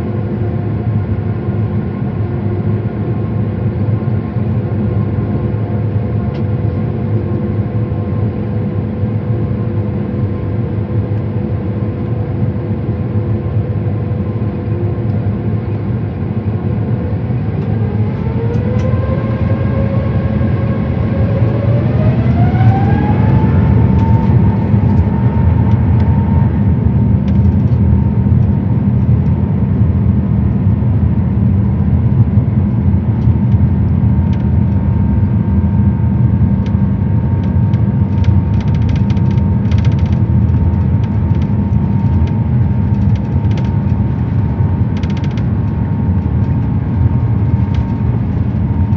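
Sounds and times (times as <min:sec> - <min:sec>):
jet engines rumbling: 0:00.0 - 0:48.9
engine whine rising in pitch: 0:05.1 - 0:48.9.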